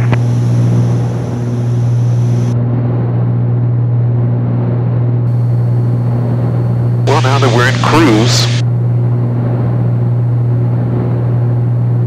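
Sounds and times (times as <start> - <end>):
aircraft propeller engines droning: 0.0 - 12.0.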